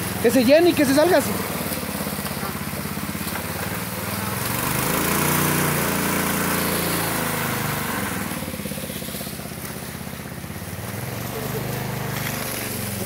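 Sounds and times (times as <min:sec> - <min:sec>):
water pump engine running: 0:00.0 - 0:13.0.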